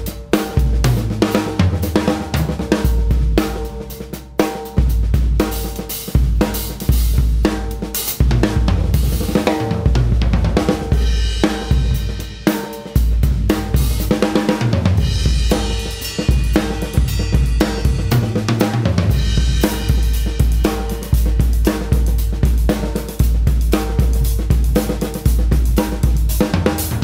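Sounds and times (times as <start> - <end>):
snare drum: 0.0 - 27.0.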